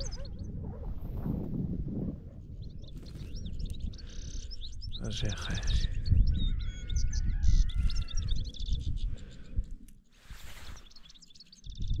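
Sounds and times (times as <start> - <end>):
small birds chirping: 0.0 - 0.6, 2.4 - 12.0.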